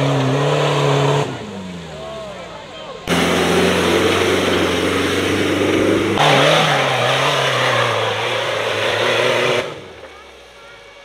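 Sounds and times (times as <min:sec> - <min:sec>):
buggy engine revving hard: 0:00.0 - 0:10.8.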